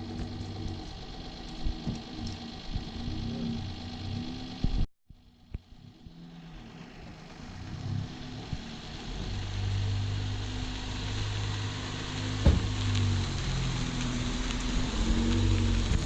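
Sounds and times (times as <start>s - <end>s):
car engine droning through exhaust: 0.0s - 16.0s.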